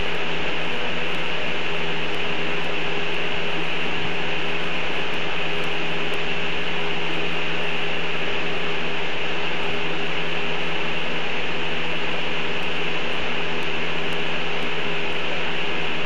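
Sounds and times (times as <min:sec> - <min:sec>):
low even hum: 0:00.0 - 0:16.0
steady hiss: 0:00.0 - 0:16.0.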